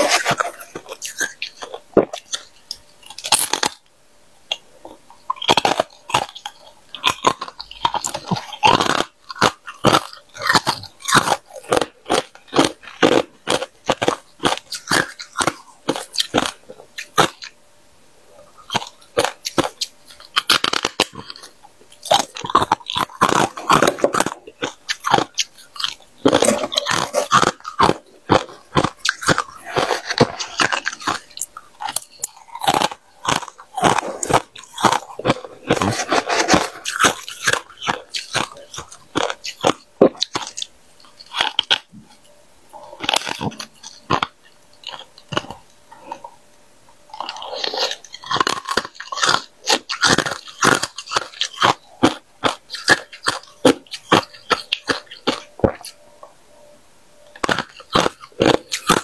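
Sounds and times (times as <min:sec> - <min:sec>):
frost being chewed crunching: 0:00.0 - 0:17.6, 0:18.3 - 0:59.0.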